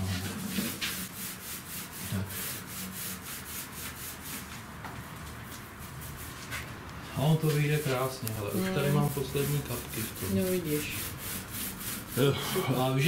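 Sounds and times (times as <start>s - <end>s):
paintbrush rubbing on metal: 0.0s - 4.7s, 5.5s - 13.0s.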